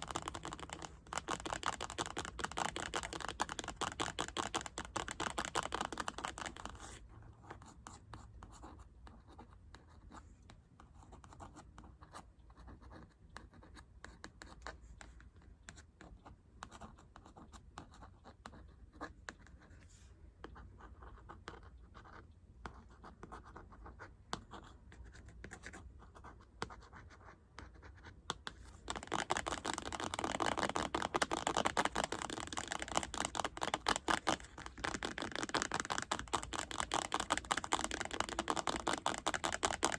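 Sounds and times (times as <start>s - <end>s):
scratchy strokes and taps: 0.0s - 39.9s.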